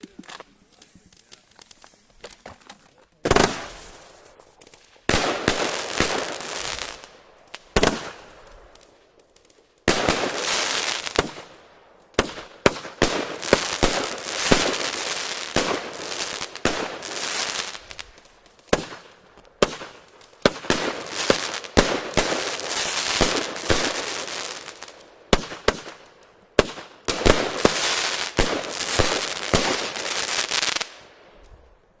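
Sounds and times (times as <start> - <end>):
fireworks firing and crackling: 0.0 - 32.0.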